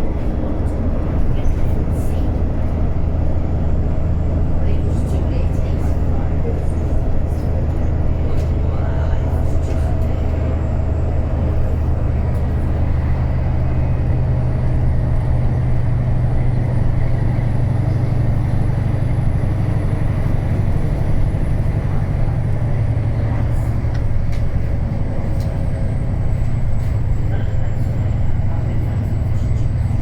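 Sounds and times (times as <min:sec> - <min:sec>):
bus diesel engine droning: 0:00.0 - 0:30.0.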